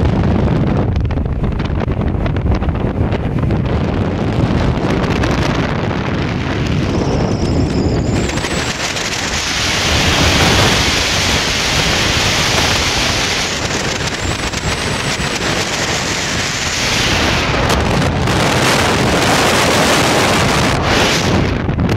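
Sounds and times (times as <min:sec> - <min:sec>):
speedboat rumble: 0:00.0 - 0:21.9
wind buffeting microphone: 0:00.0 - 0:21.9.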